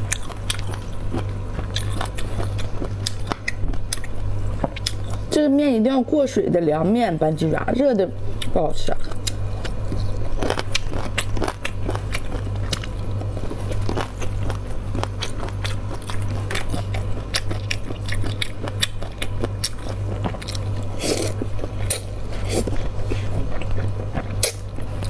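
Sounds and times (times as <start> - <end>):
chewing with wet mouth clicks: 0.0 - 5.3, 8.4 - 25.0
steady low hum: 0.0 - 25.0.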